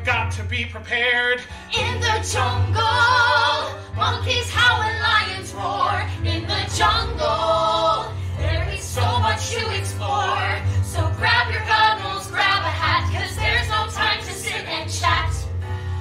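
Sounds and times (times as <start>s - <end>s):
voices singing with vibrato: 1.5s - 15.6s.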